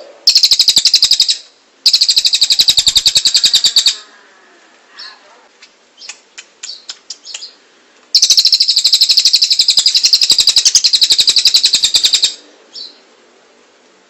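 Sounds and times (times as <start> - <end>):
bird chirping and trilling: 0.0 - 4.1, 5.0 - 13.1.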